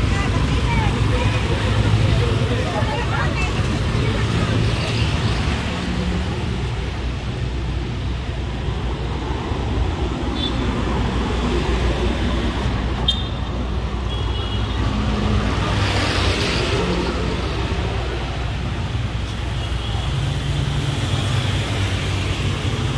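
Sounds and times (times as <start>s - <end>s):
road traffic noise: 0.0s - 22.9s.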